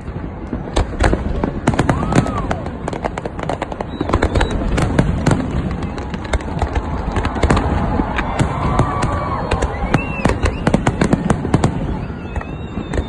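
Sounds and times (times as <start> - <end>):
fireworks bangs and crackling: 0.0 - 13.0
firework whistle: 0.8 - 13.0.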